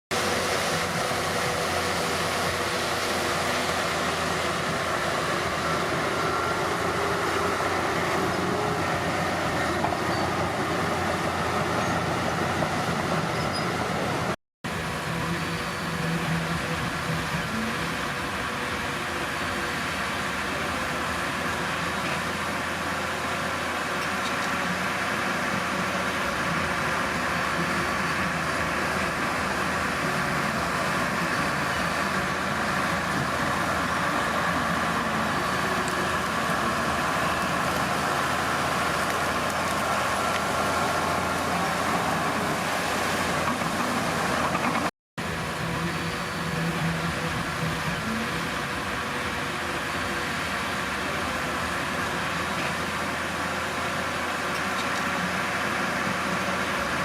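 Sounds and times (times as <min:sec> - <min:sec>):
diesel engine running: 0:00.1 - 0:57.0.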